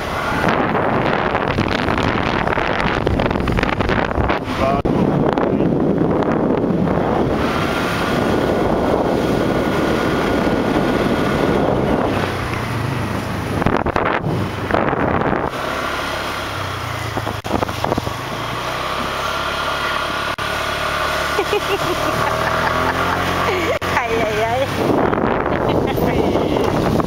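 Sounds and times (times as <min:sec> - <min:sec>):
wind buffeting microphone: 0:00.0 - 0:19.3, 0:21.7 - 0:27.0
motorcycle engine running: 0:00.0 - 0:27.0.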